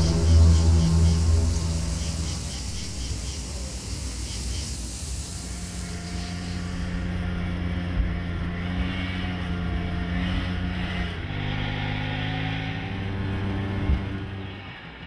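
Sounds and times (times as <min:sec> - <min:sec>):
van engine humming: 0:00.0 - 0:04.0, 0:05.2 - 0:14.8.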